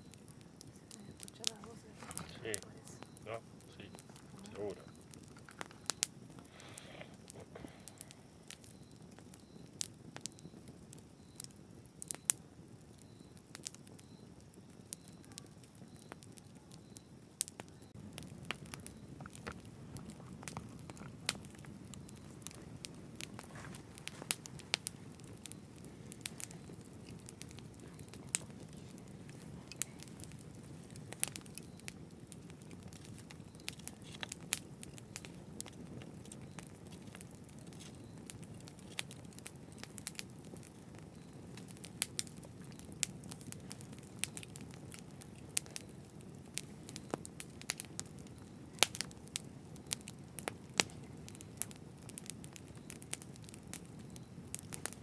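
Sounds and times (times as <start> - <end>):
campfire crackling and popping: 0.0 - 55.0
low rumble of burning fire: 0.0 - 55.0.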